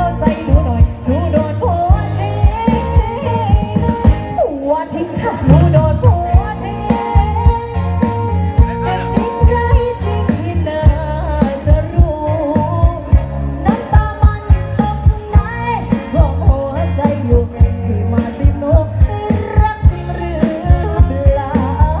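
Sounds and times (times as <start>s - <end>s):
music with heavy bass and drums: 0.0s - 22.0s
person singing: 0.0s - 22.0s.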